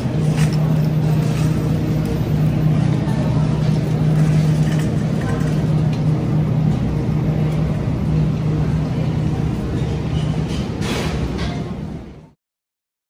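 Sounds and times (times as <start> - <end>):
refrigerated display cases humming: 0.0 - 12.4.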